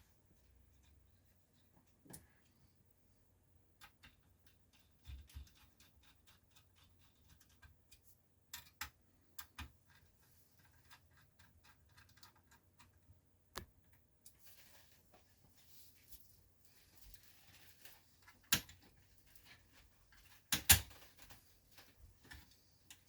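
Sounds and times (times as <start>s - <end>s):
faint clicks of small parts handled: 3.8s - 23.0s.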